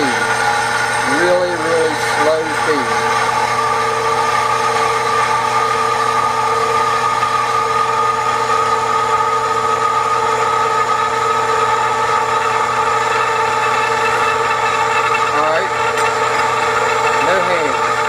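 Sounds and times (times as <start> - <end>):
bandsaw cutting metal: 0.0 - 18.0.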